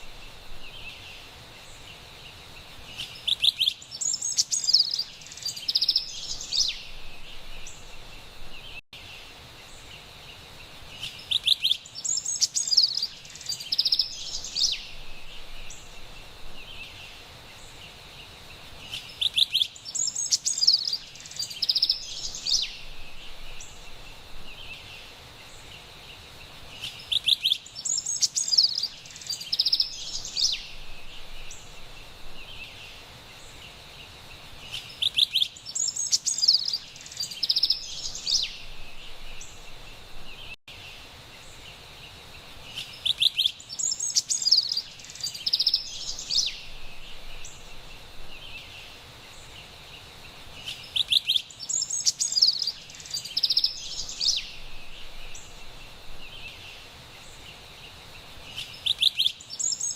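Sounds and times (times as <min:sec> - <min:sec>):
wren singing: 0:00.0 - 0:08.8, 0:10.6 - 0:40.8, 0:41.4 - 0:59.9
faint forest background hiss: 0:00.0 - 0:59.9.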